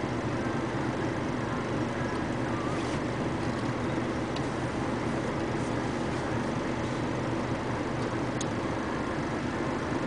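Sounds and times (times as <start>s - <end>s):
diesel truck engine idling: 0.0s - 10.0s
heavy machinery rumble: 0.0s - 10.0s.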